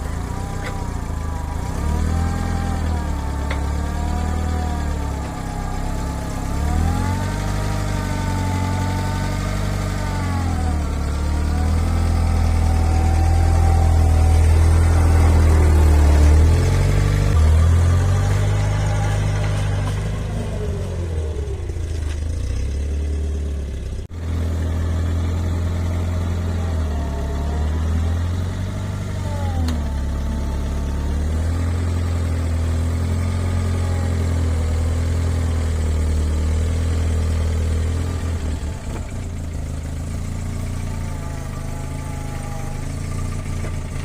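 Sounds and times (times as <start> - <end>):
engine revving: 0.0 - 44.0.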